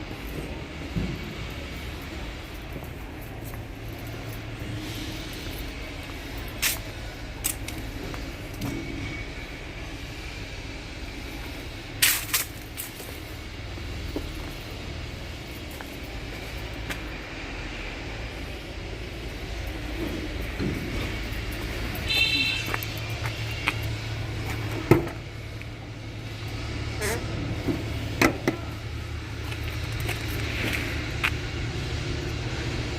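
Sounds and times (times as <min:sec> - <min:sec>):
garbage truck engine rumbling: 0:00.0 - 0:32.9.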